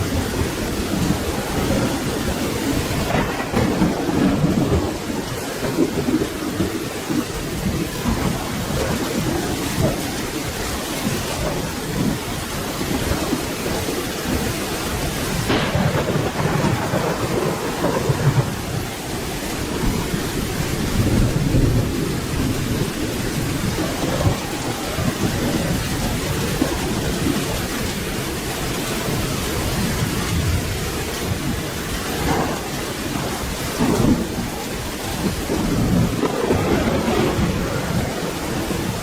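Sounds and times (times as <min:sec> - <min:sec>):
rolling thunder: 0:00.0 - 0:39.0
steady rain: 0:00.0 - 0:39.0.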